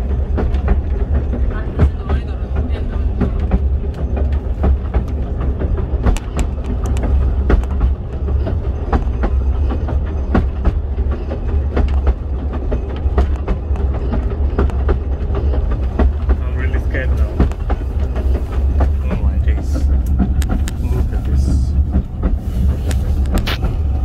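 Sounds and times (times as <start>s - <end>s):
railway carriage rumbling: 0.0s - 24.0s
wheels clicking on rails: 0.0s - 24.0s.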